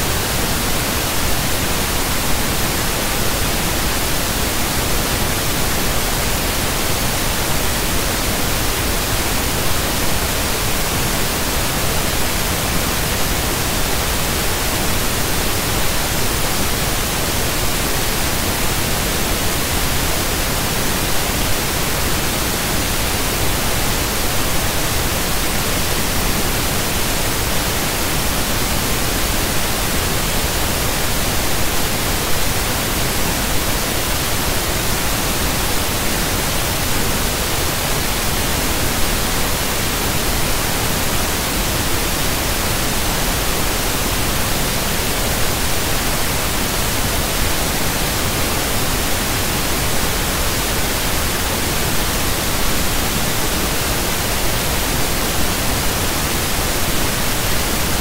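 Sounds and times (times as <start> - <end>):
loud static hiss: 0.0 - 58.0.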